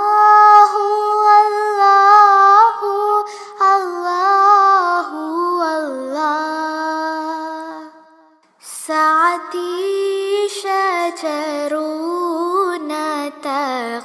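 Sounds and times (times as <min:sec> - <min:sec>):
high voice singing devotional song: 0:00.0 - 0:14.0.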